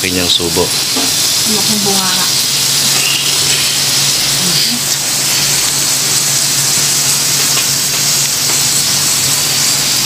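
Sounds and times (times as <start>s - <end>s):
meat sizzling on a grill pan: 0.0s - 10.0s.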